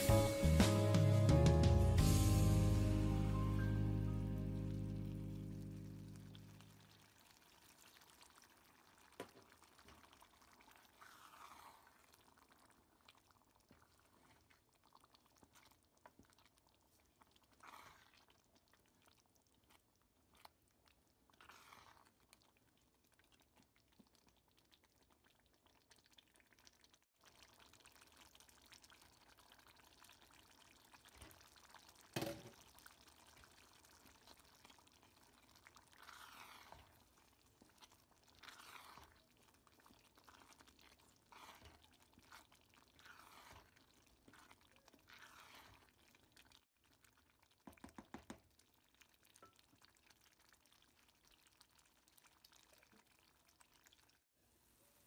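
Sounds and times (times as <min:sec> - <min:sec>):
wooden spoon stirring thick stew: 0:05.2 - 0:54.1.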